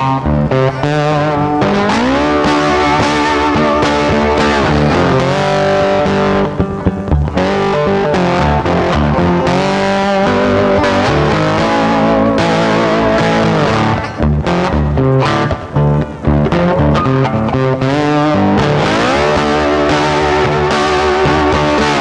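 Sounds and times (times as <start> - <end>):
electric guitar background music: 0.0 - 22.0.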